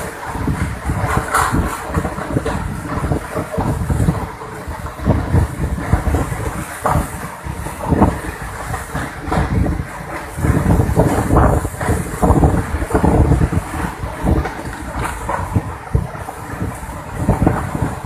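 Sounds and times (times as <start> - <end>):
rushing water: 0.0 - 18.0
strong wind gusting on microphone: 0.0 - 18.0.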